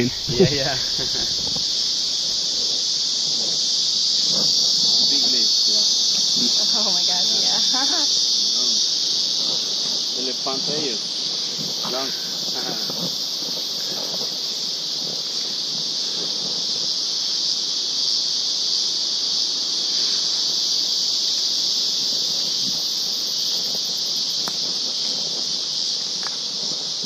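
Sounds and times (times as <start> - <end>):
insect chorus drone: 0.0 - 27.0.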